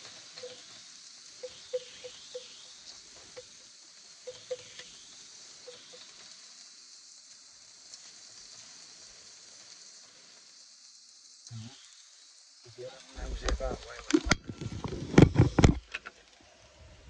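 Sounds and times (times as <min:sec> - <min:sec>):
meat and onions sizzling in a pan: 0:00.0 - 0:16.9.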